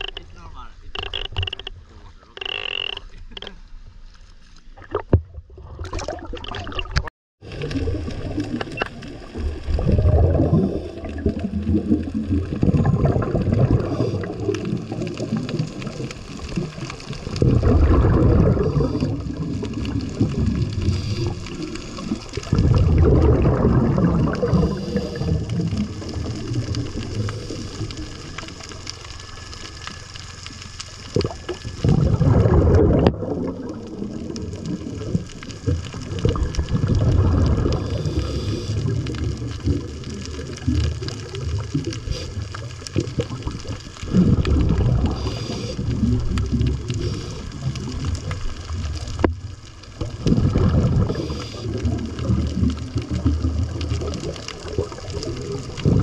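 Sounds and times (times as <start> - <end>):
regulator bubbles underwater: 4.6 - 56.0.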